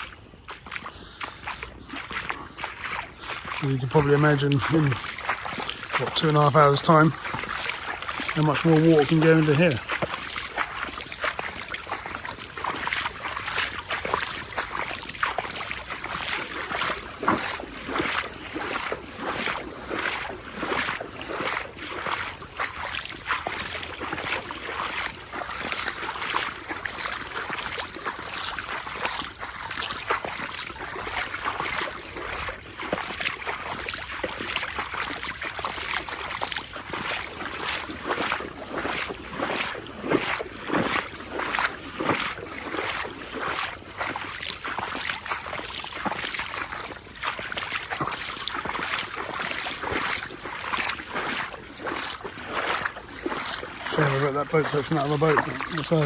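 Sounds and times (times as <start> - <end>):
footsteps wading through water: 0.0 - 56.0.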